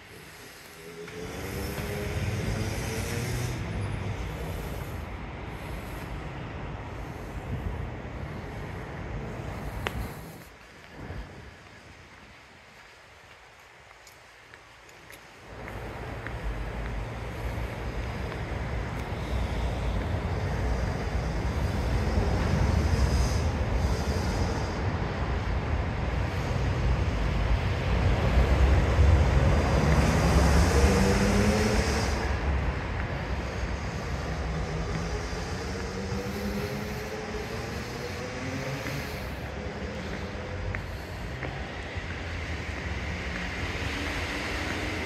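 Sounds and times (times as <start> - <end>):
rumble of passing vehicles: 0.0 - 45.0.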